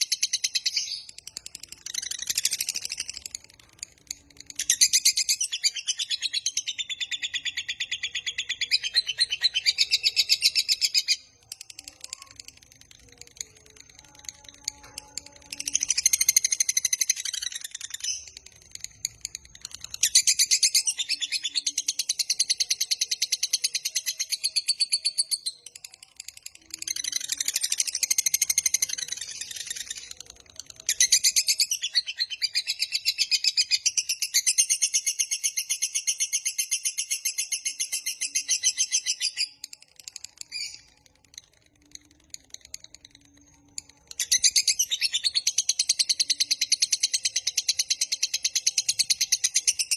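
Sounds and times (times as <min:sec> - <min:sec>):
bird chattering song: 0:00.0 - 0:49.9.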